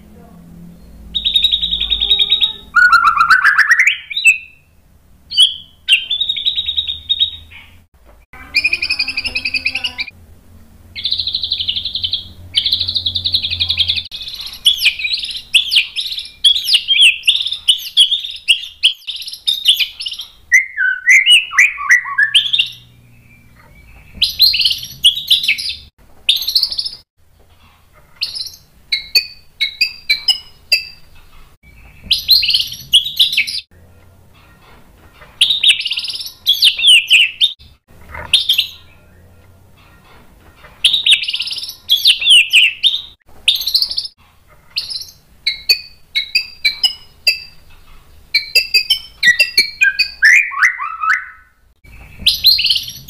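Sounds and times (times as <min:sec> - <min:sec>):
bird singing varied phrases: 0:00.6 - 0:10.2, 0:11.0 - 0:27.0, 0:28.2 - 0:31.0, 0:31.7 - 0:33.7, 0:35.4 - 0:39.3, 0:40.8 - 0:44.2, 0:44.8 - 0:47.6, 0:48.3 - 0:53.0.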